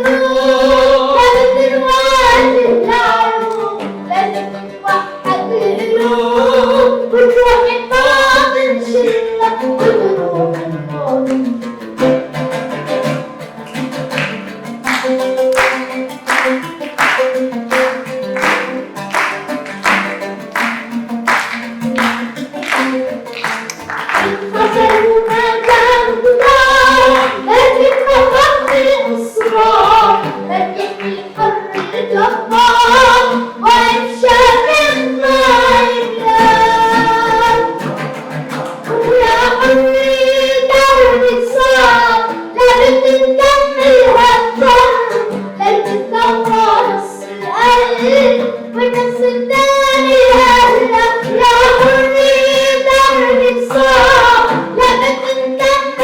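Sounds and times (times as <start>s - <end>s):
voices singing a melody: 0.0s - 11.6s, 14.2s - 56.0s.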